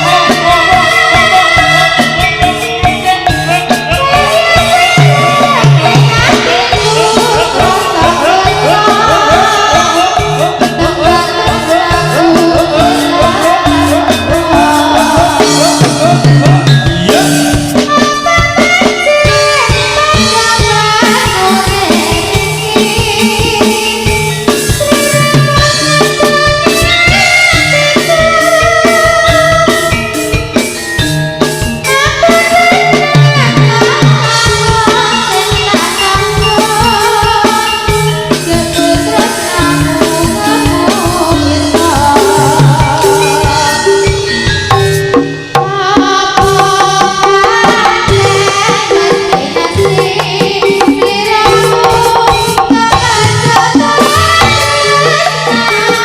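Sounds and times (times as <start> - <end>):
gamelan percussion ringing notes: 0.0 - 56.0
hand drums beating: 0.0 - 56.0.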